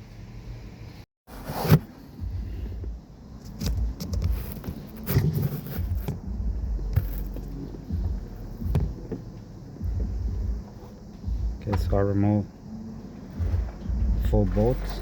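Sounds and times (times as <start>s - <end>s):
low handling rumble: 2.0s - 15.0s.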